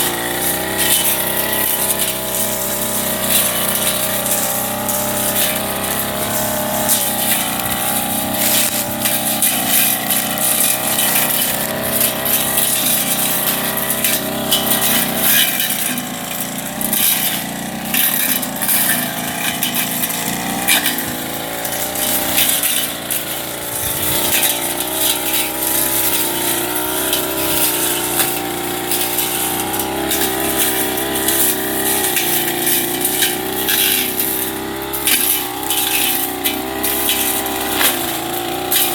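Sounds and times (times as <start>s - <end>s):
blade clattering on debris: 0.0s - 38.9s
brush cutter engine running: 0.0s - 38.9s.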